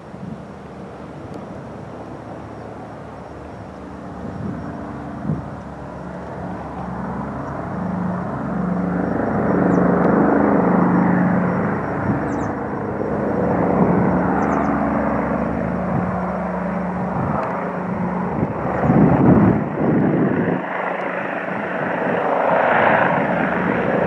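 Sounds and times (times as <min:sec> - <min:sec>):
propeller plane engines drone: 0:00.0 - 0:24.0.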